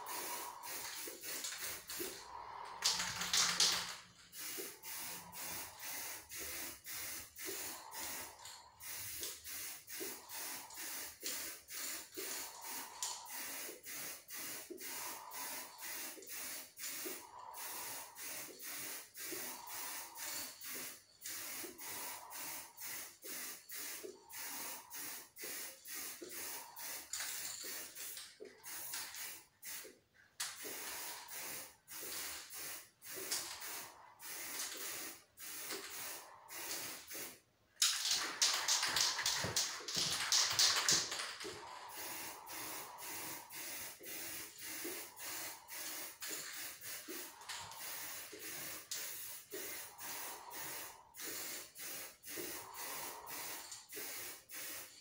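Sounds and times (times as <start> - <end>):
spray can hissing bursts: 0.0 - 55.0.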